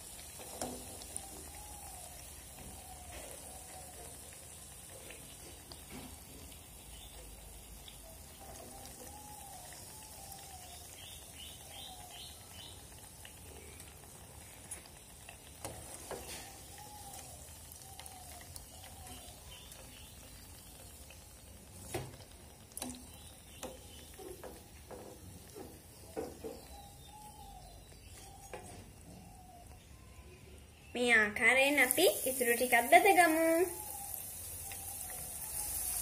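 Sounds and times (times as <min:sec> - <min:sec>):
deep-frying sizzle in oil: 0:00.0 - 0:36.0.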